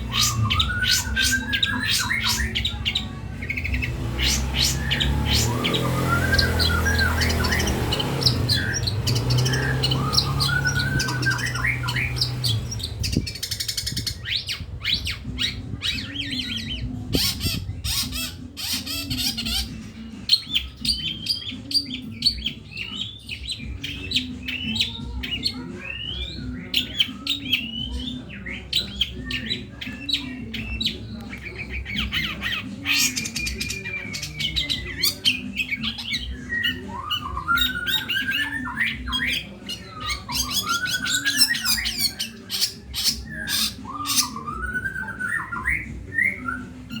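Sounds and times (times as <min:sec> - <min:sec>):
bird singing varied song: 0:00.0 - 0:47.0.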